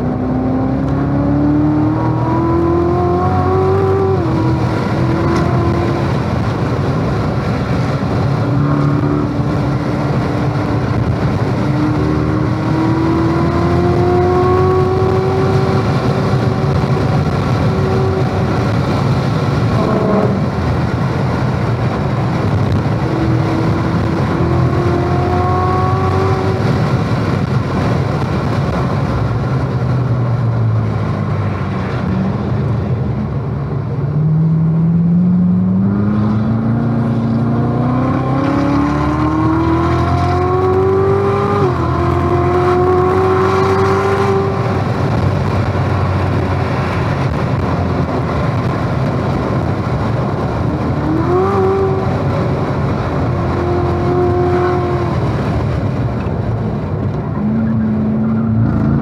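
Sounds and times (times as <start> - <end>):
sports car engine revving: 0.0 - 56.1
wind and tyre noise: 0.0 - 59.0.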